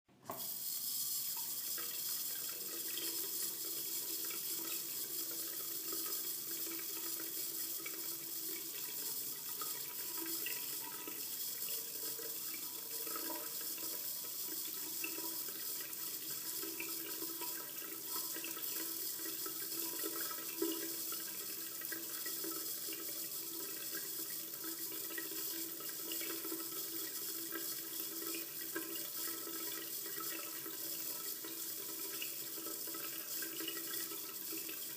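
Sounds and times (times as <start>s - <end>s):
water running from faucet: 0.3s - 34.9s.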